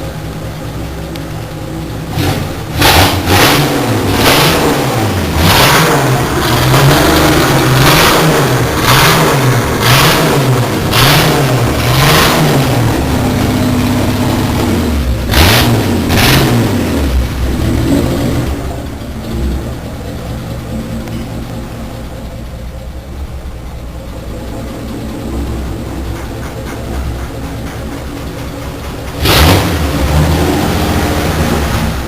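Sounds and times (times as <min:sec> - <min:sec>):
engine revving: 0:01.9 - 0:21.8, 0:24.4 - 0:32.0.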